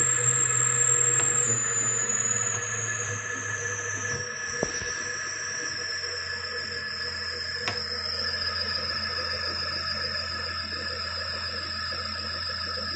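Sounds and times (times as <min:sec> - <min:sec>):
electric motor whining: 0:00.0 - 0:12.9.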